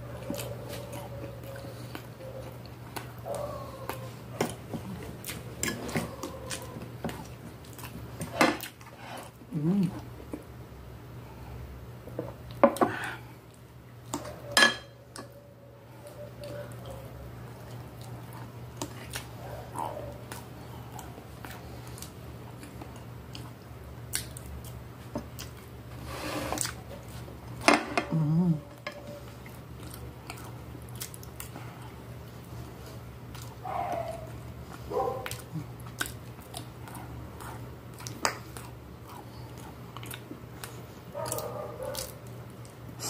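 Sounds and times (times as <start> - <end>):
chewing and eating: 0.0 - 10.6, 11.2 - 43.0.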